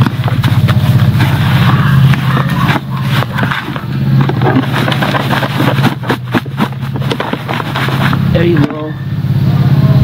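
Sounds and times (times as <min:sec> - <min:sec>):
trowel scraping soil in plastic basin: 0:00.0 - 0:08.3
low motor hum: 0:00.0 - 0:10.0.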